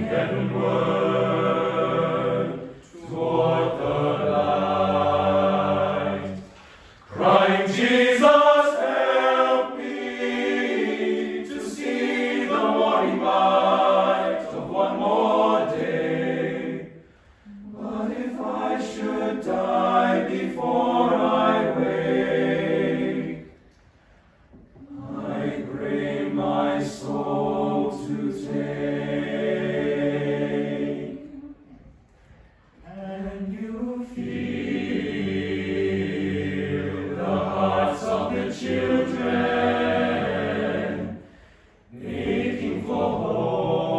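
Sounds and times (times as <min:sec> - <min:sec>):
boys' choir singing in harmony: 0:00.0 - 0:43.9.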